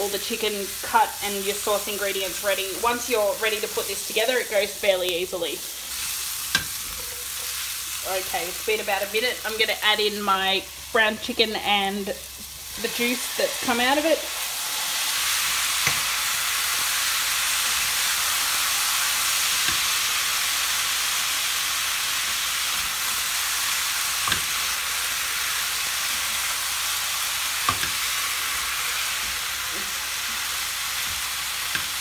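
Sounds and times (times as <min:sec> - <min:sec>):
food sizzling in frying pan: 0:00.0 - 0:32.0.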